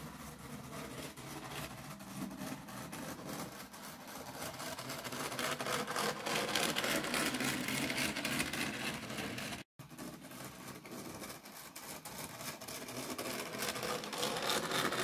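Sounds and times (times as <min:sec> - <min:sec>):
wheels running on rails: 0:03.0 - 0:15.0.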